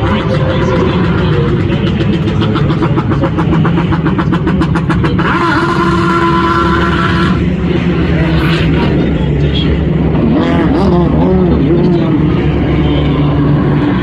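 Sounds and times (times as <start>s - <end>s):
race cars driving past: 0.0s - 14.0s.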